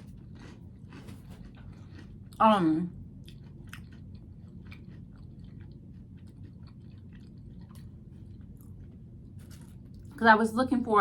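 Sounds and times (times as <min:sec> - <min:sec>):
person chewing: 0:00.0 - 0:10.2.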